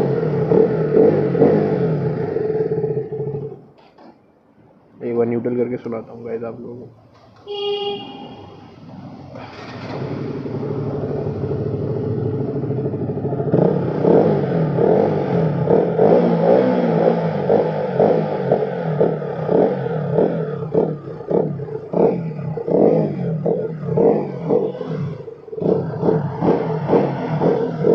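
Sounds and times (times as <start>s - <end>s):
motorcycle engine revving: 0.0s - 3.6s, 7.5s - 27.9s.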